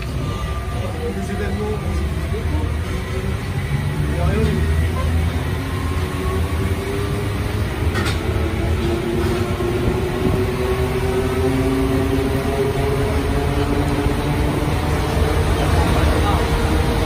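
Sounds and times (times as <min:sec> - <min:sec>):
constant whine: 0:00.0 - 0:17.0
train rumbling in tunnel: 0:00.0 - 0:17.0.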